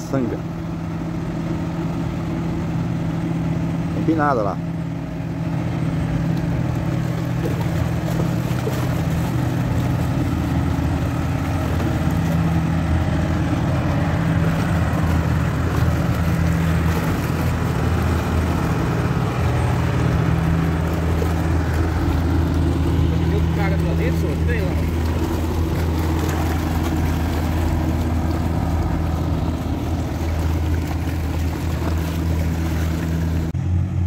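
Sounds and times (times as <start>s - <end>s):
tugboat diesel engines droning: 0.0s - 34.0s.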